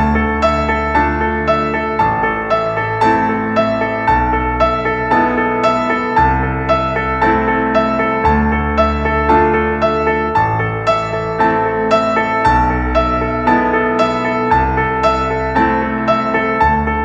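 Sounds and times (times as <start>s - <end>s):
low sustained bass notes: 0.0s - 17.0s
soft piano music: 0.0s - 17.0s.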